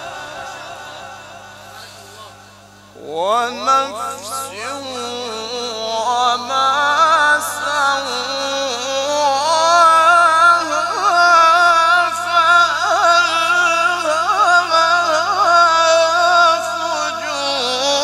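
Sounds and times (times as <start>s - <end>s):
man chanting melodic recitation: 3.0s - 18.0s.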